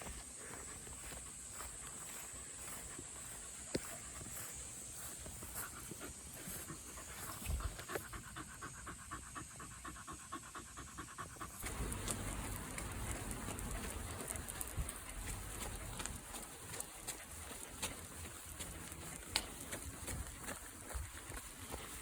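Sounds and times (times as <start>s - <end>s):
even background noise: 0.0s - 22.0s
dog panting quickly: 0.3s - 22.0s.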